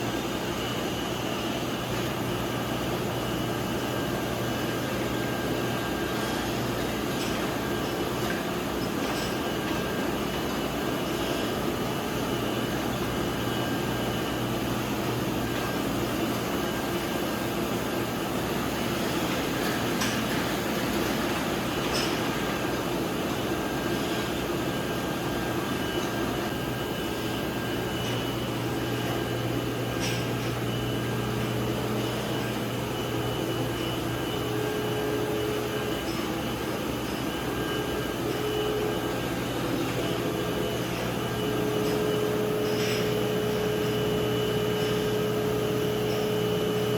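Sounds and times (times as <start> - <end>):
machinery humming and whirring: 0.0 - 46.9.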